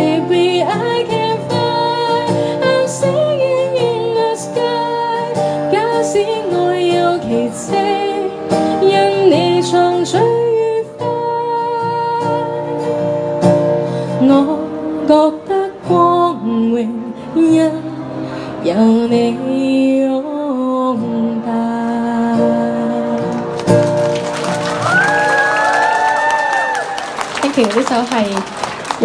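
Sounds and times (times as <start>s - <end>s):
woman singing pop song: 0.0s - 23.5s
strummed acoustic guitar: 0.0s - 24.6s.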